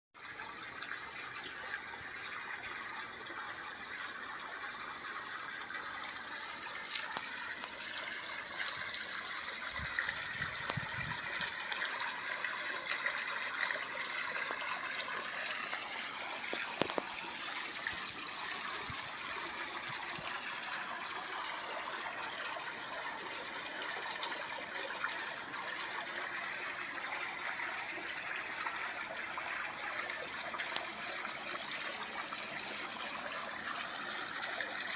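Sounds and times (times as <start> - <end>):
water pouring into pool: 0.2 - 34.9.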